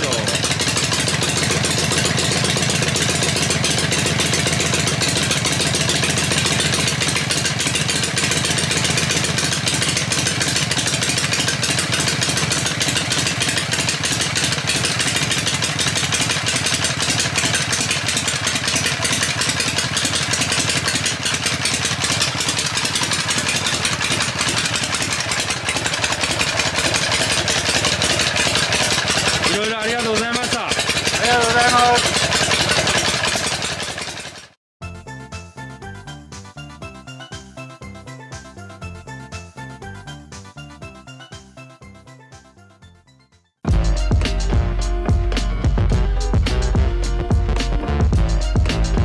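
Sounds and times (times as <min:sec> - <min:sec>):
motorcycle engine idling: 0:00.0 - 0:34.6, 0:43.7 - 0:49.0.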